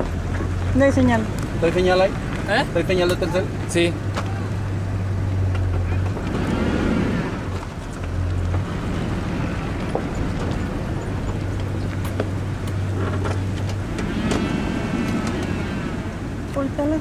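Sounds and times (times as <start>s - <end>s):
low engine hum: 0.0s - 17.0s
wind rumbling on microphone: 0.0s - 17.0s.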